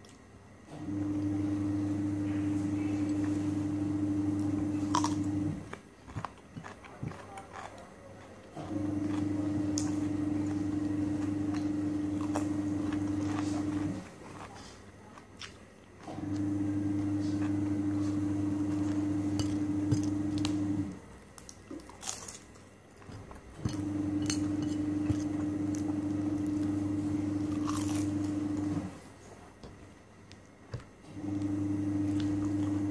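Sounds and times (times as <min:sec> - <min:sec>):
close-up chewing and crunching: 0:02.3 - 0:32.9.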